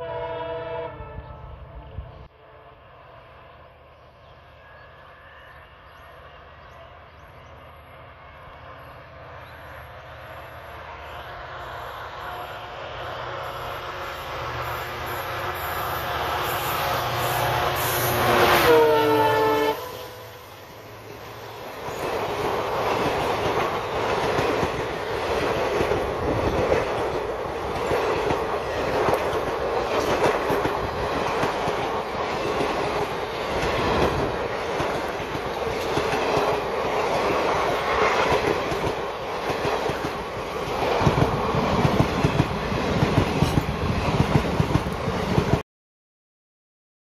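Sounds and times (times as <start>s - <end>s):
train wheels rumbling on rail: 0.9s - 45.6s.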